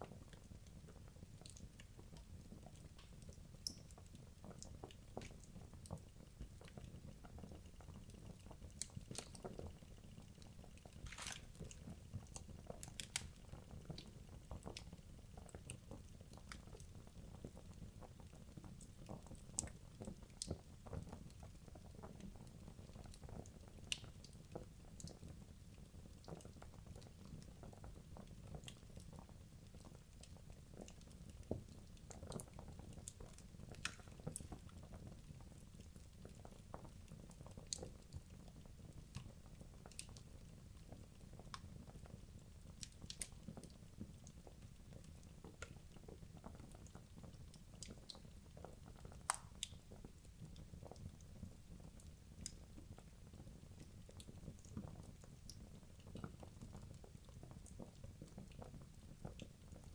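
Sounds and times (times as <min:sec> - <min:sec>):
logs crackling in fireplace: 0:00.0 - 0:22.2, 0:23.0 - 0:25.3, 0:26.2 - 0:59.9.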